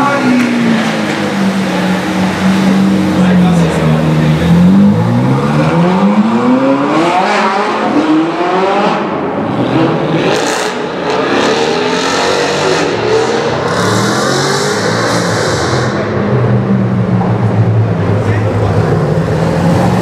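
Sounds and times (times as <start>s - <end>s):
cars accelerating in tunnel: 0.0s - 20.0s.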